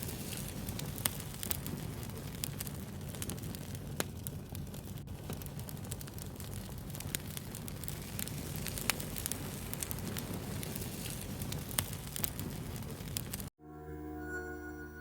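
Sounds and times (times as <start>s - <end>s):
wood fire crackling and popping: 0.0s - 13.5s.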